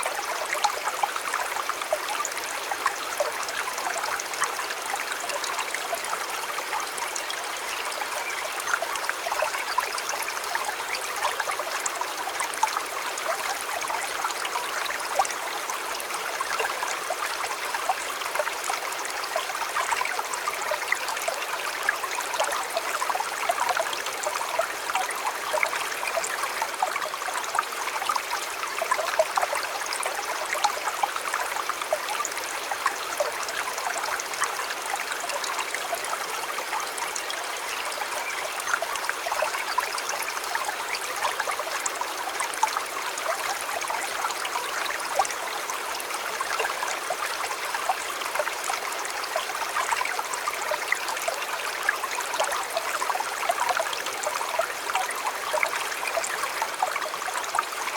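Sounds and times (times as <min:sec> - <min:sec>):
stream flowing over stones: 0:00.0 - 0:57.9.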